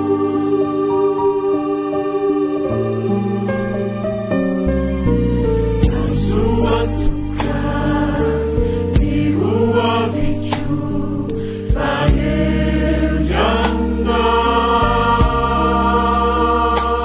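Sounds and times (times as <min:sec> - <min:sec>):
choir singing gospel: 0:00.0 - 0:03.6, 0:05.8 - 0:17.0
sustained instrumental backing: 0:00.0 - 0:17.0.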